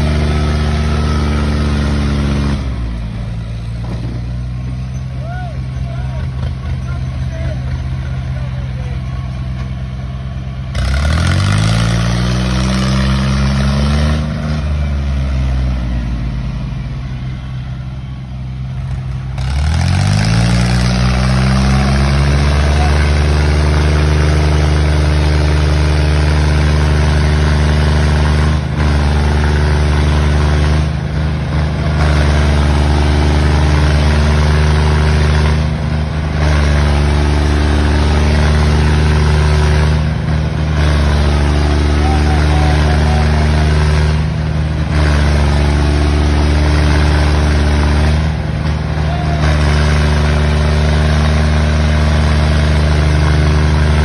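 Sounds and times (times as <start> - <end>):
tractor engines revving: 0.0 - 54.0.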